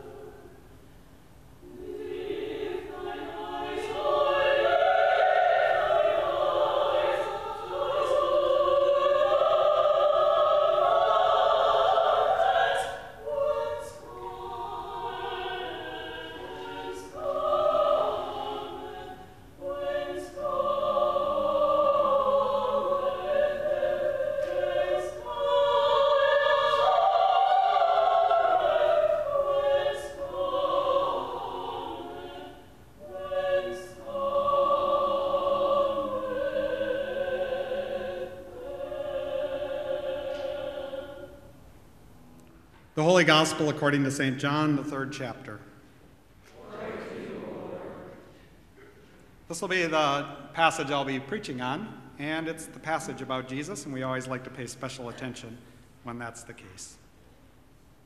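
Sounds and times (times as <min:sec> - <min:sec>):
vocal ensemble singing in parts: 0:00.0 - 0:00.6, 0:01.6 - 0:41.6, 0:46.4 - 0:55.5.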